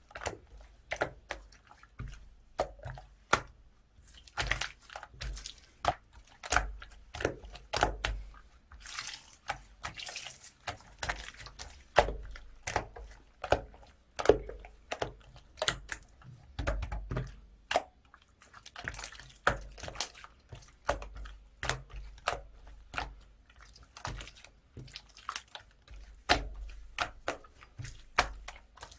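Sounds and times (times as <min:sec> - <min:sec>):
soft crackling of slime: 0:00.0 - 0:28.9.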